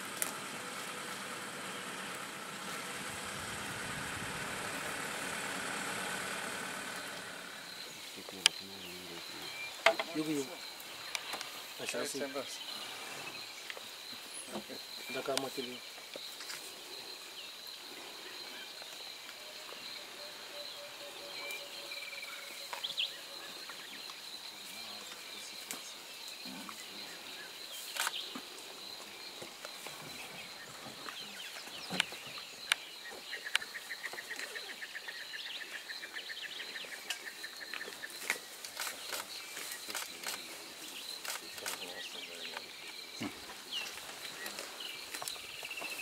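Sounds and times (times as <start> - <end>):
high-pitched insect drone: 0.1 - 46.0.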